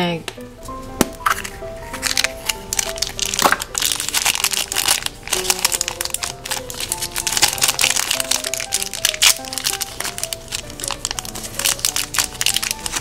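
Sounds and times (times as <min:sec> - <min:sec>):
light plucked background tune: 0:00.0 - 0:13.0
cellophane wrapper crinkling: 0:01.2 - 0:13.0.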